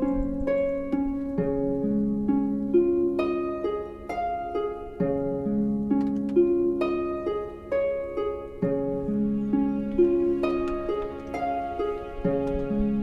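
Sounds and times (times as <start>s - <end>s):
gentle harp-like plucked melody: 0.0s - 13.0s.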